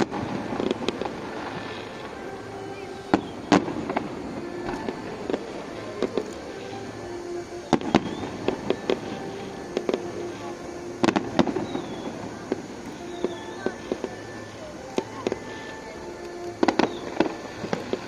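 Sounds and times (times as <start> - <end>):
background music: 0.0 - 18.0
fireworks bangs: 0.0 - 18.0.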